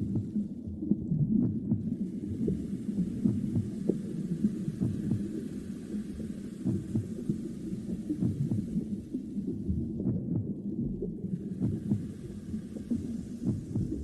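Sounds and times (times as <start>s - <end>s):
muffled heartbeat pulsing: 0.0s - 14.0s.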